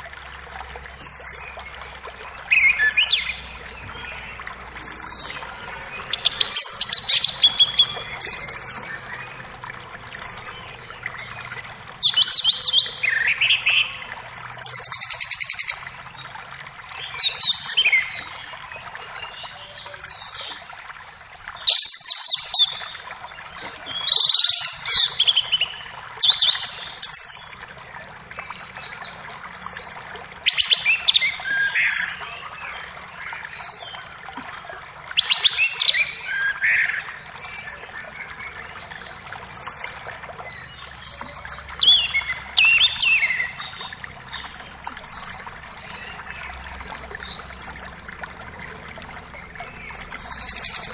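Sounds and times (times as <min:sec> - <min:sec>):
flowing creek: 0:00.0 - 0:50.9
birds chirping: 0:01.0 - 0:20.7, 0:21.6 - 0:27.8, 0:35.2 - 0:50.9.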